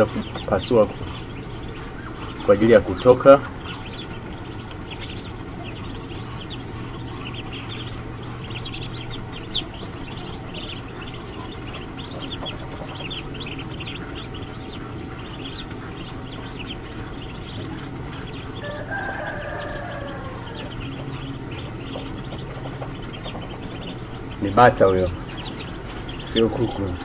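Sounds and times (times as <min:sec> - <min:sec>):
ducklings peeping: 0:00.0 - 0:27.0
low hum: 0:00.0 - 0:27.0.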